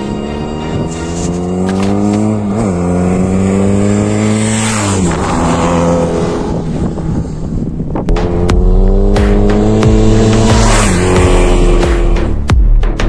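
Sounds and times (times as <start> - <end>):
motorcycle engine accelerating: 0.0 - 12.5.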